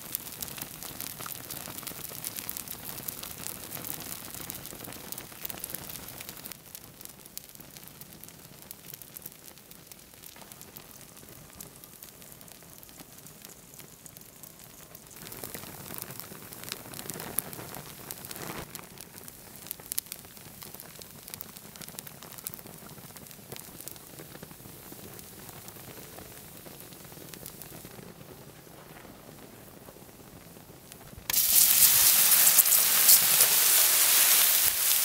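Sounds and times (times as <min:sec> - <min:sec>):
burning plastic crackling and sizzling: 0:00.0 - 0:35.0.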